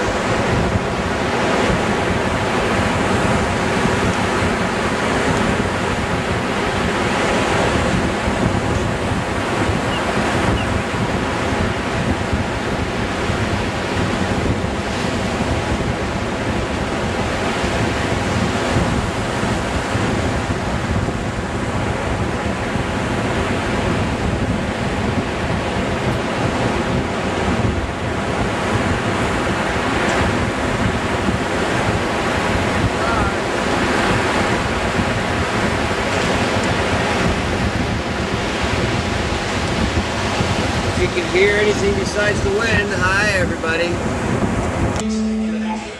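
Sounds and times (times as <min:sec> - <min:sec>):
wind buffeting microphone: 0:00.0 - 0:45.0
surf breaking on beach: 0:00.0 - 0:45.6.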